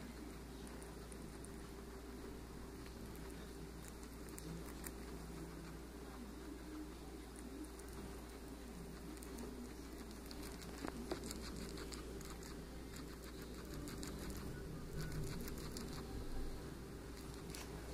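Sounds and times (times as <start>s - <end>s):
faint steady hum: 0.0s - 17.9s
guinea pig chewing crunchily: 0.0s - 17.9s.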